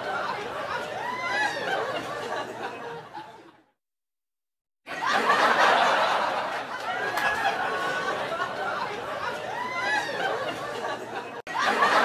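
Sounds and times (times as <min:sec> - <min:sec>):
voices chattering and laughing: 0:00.0 - 0:03.6, 0:05.0 - 0:12.0.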